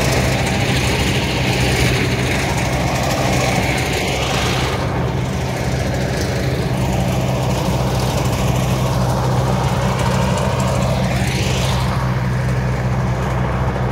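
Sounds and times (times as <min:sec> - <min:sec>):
tractor diesel engine running: 0:00.0 - 0:13.9.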